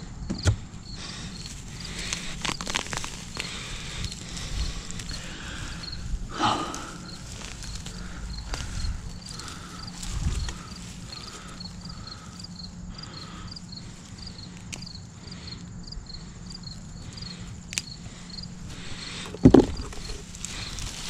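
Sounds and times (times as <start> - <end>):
crickets chirping: 0.0 - 21.0
low steady hum: 0.0 - 21.0.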